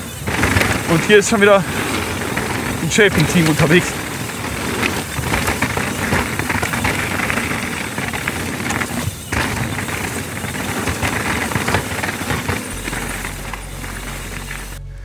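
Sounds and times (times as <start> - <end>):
mountain bike rattling on trail: 0.0 - 14.8
rapid chattering knocks: 0.0 - 14.8
plate compactor engine running: 0.0 - 15.0
steady low hum: 0.0 - 15.0.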